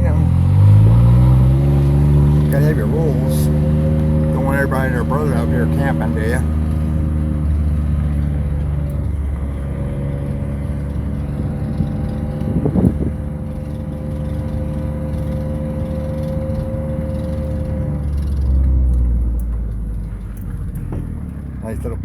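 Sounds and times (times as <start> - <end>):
road rumble: 0.0 - 22.0
vehicle engine running: 0.0 - 22.0.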